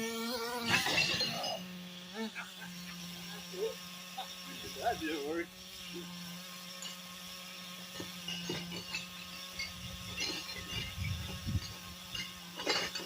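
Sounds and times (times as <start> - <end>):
rc truck engine buzzing: 0.0 - 13.0.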